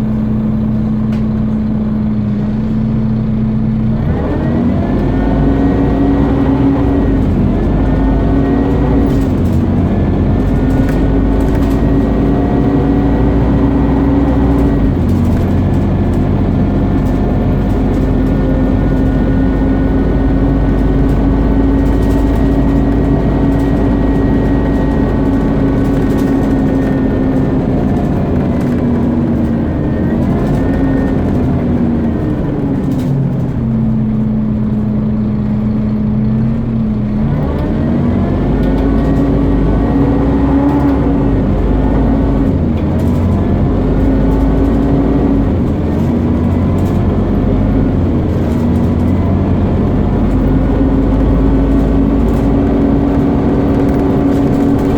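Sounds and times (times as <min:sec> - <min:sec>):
bus engine pulling under load: 0:00.0 - 0:54.9
loud whine: 0:00.0 - 0:54.9.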